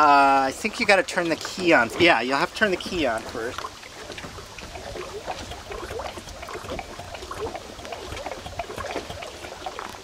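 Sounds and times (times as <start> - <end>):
low steady rumble: 0.0 - 10.0
waves lapping against boat hull: 0.0 - 10.0.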